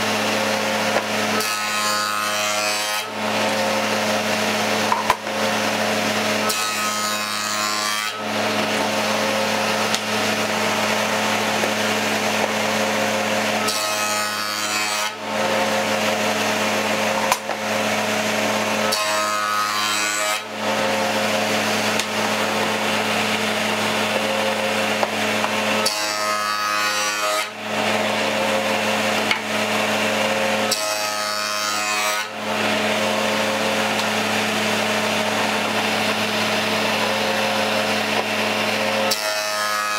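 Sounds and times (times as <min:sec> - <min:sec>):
saw blade cutting wood: 0:00.0 - 0:39.9
table saw running: 0:00.0 - 0:39.9.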